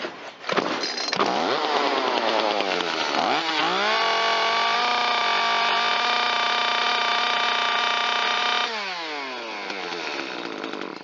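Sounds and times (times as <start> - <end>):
chainsaw engine revving: 1.2 - 11.0.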